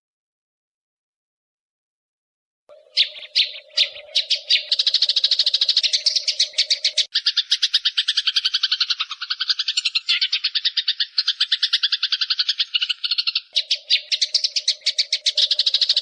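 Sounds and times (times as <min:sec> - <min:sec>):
songbird chirping and trilling: 0:02.7 - 0:16.0.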